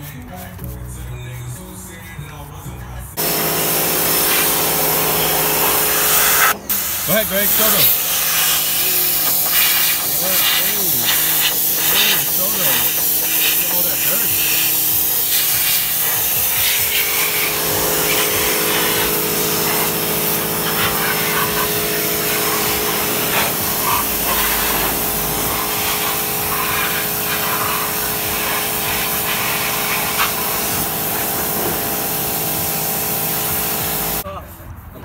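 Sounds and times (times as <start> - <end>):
pressure washer motor hum: 3.2 - 34.2
water jet spraying on metal: 3.2 - 34.2.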